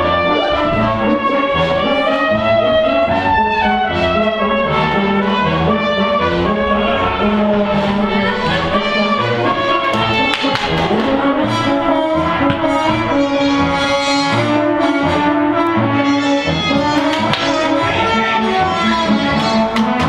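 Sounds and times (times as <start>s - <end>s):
brass and strings music: 0.0s - 20.0s.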